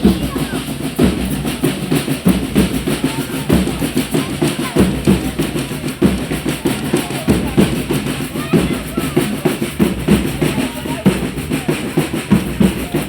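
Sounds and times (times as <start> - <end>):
snare and bass drums beating: 0.0 - 13.0.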